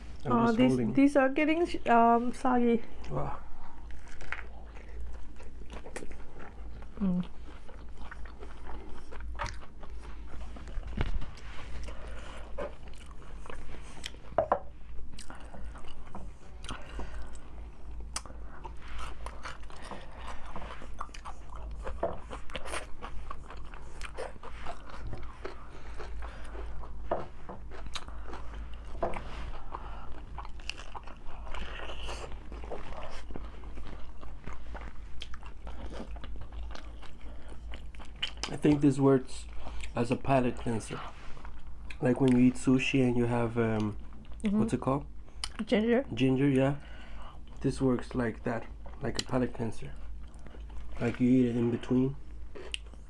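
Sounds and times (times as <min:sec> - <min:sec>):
crunchy chewing of tacos: 0:02.0 - 0:53.0.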